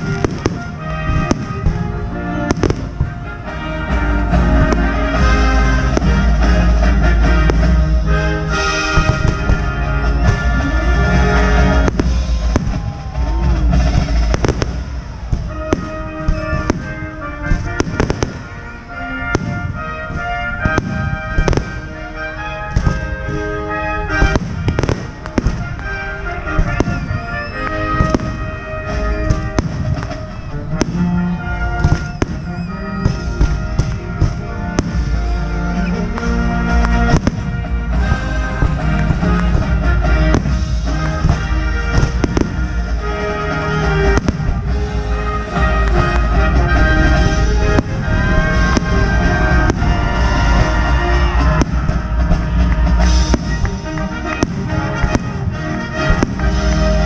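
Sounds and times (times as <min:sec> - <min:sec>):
fireworks bangs and crackles: 0:00.0 - 0:57.0
music playing: 0:00.0 - 0:57.0.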